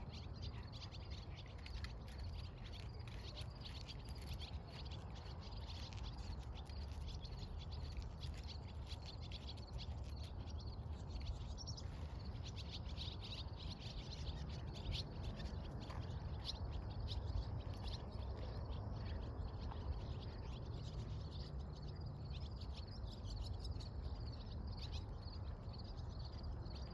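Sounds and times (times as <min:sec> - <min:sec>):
small birds chirping: 0:00.0 - 0:26.9
steady low rumble: 0:00.0 - 0:26.9.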